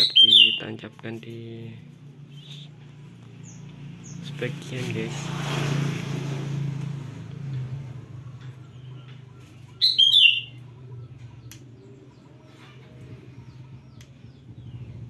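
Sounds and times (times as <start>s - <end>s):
bird chirping: 0.0s - 5.1s, 7.5s - 15.0s.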